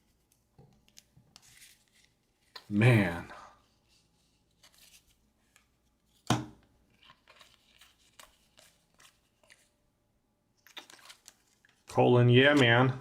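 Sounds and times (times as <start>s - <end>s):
card wrappers rustling and crinkling: 0.0s - 3.0s, 3.6s - 9.8s, 10.6s - 12.8s.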